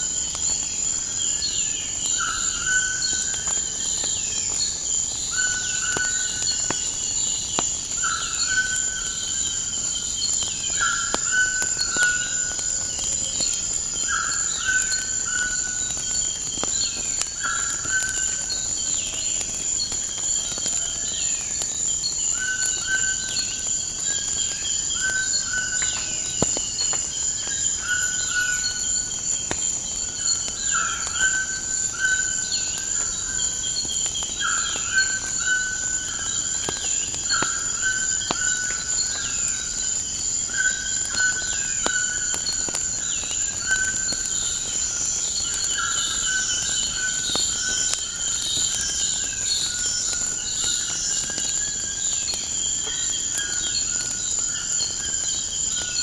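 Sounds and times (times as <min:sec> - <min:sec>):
crickets trilling: 0:00.0 - 0:56.0
wood fire crackling: 0:00.0 - 0:56.0.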